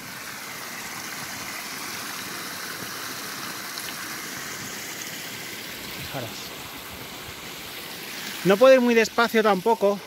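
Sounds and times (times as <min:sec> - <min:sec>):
stream trickling over stones: 0:00.0 - 0:10.0.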